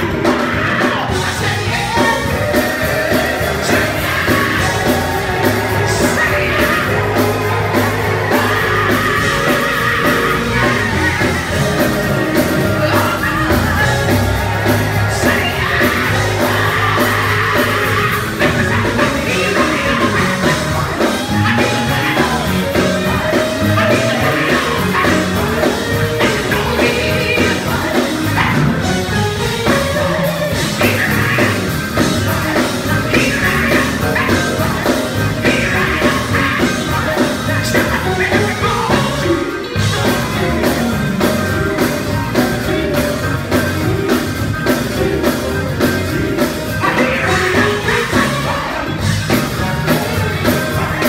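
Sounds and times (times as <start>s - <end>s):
live band with drum kit: 0.0s - 51.0s.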